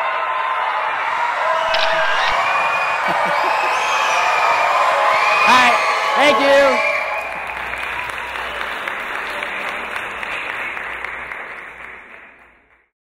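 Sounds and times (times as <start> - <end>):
children applauding: 0.0 - 12.9.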